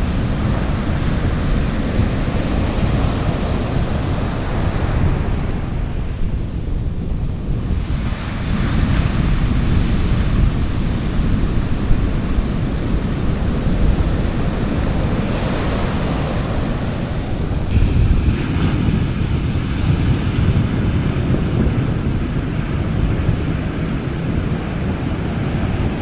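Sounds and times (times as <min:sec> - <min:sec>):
sea waves washing on a beach: 0:00.0 - 0:26.0
wind rumble on microphone: 0:00.0 - 0:26.0.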